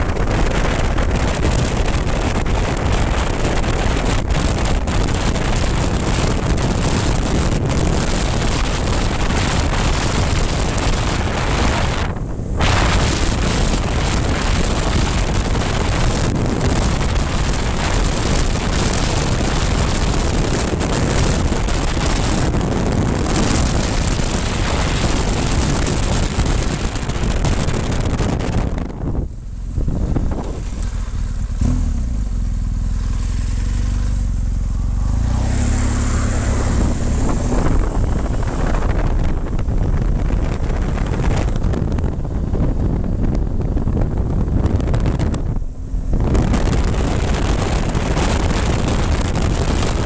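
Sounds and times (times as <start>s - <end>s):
motorcycle engine running: 0.0s - 50.0s
wind buffeting microphone: 0.0s - 50.0s.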